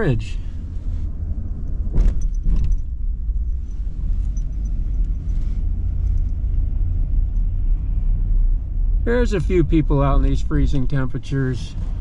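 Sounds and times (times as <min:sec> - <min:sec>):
road and drivetrain rumble: 0:00.0 - 0:12.0.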